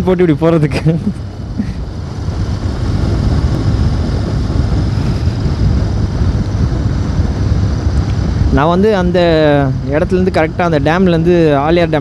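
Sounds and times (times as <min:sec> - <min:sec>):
wind rushing over microphone: 0:00.0 - 0:12.0
motorcycle engine running: 0:00.1 - 0:12.0.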